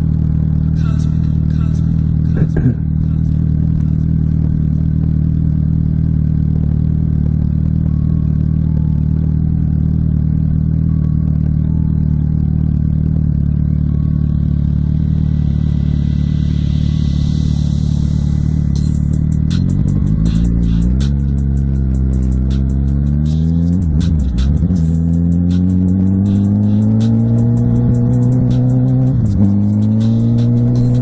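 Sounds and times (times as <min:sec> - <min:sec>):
motorcycle engine droning: 0:00.0 - 0:31.0.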